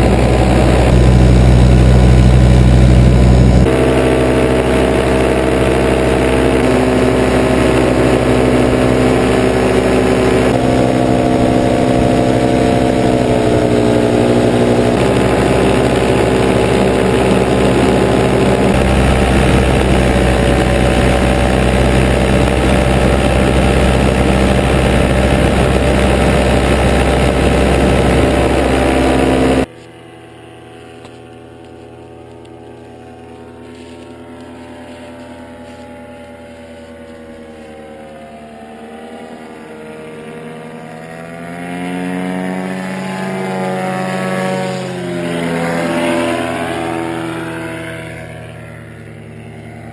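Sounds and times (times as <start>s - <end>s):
distant paramotor engine passing: 0.0s - 49.9s
paramotor engine running close: 0.0s - 49.9s.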